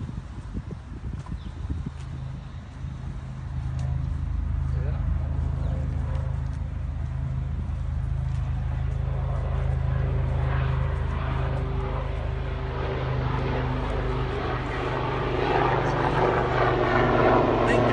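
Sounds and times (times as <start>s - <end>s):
low engine drone: 1.3s - 17.9s.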